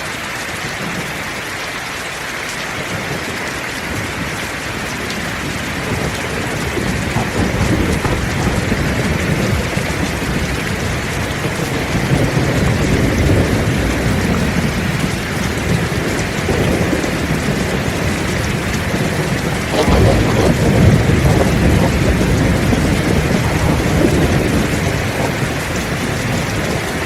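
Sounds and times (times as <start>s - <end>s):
heavy rain: 0.0s - 27.0s
low rolling thunder: 2.8s - 27.0s.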